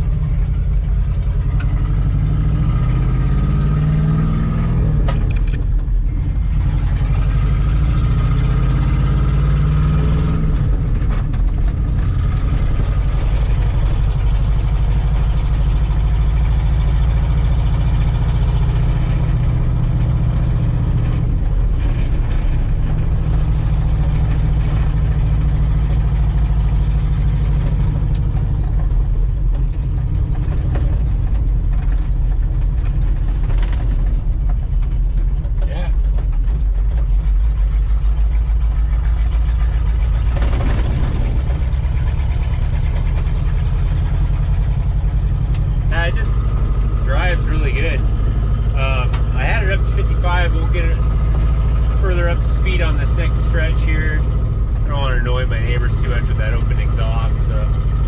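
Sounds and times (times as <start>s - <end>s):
loud truck engine without exhaust: 0.0s - 58.0s.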